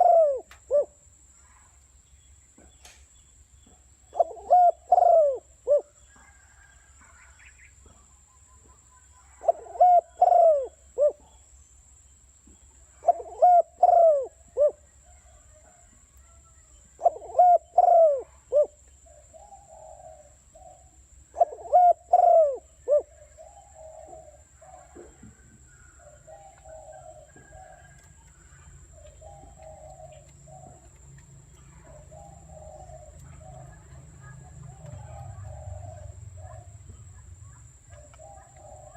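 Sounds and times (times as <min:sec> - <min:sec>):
dove cooing: 0:00.0 - 0:01.0, 0:04.1 - 0:08.0, 0:09.2 - 0:11.4, 0:12.8 - 0:38.9
soft dove coos: 0:00.0 - 0:01.0, 0:04.1 - 0:08.0, 0:09.2 - 0:11.4, 0:12.8 - 0:37.1, 0:37.8 - 0:38.9.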